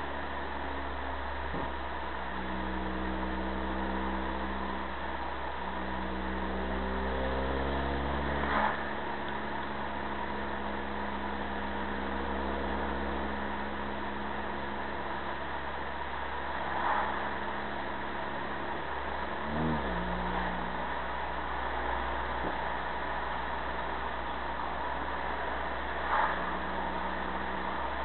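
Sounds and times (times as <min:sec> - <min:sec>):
car engine accelerating: 0:00.0 - 0:28.0
low road drone: 0:00.0 - 0:28.0.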